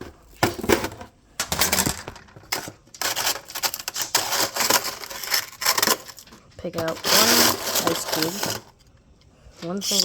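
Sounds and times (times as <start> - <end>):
ice cubes clattering in container: 0.4 - 8.8, 9.8 - 10.0.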